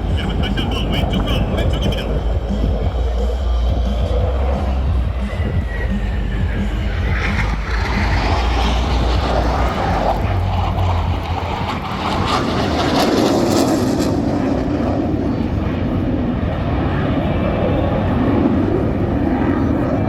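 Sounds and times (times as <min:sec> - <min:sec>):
jet aircraft flying past: 0:00.0 - 0:20.0.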